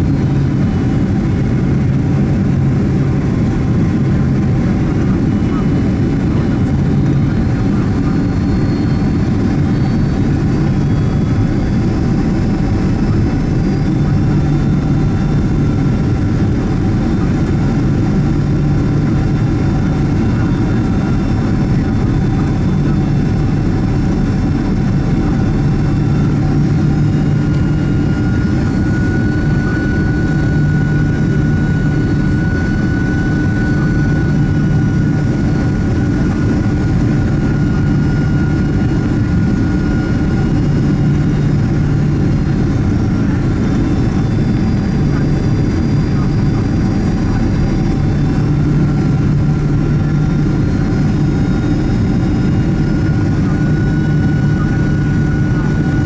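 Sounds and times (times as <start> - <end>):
aircraft cabin engine drone: 0.0 - 56.0.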